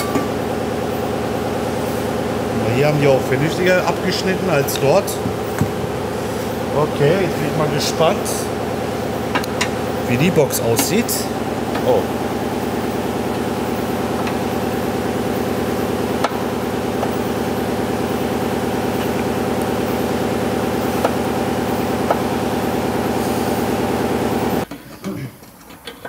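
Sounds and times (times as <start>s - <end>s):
pulsing mechanical drone: 0.0s - 24.6s.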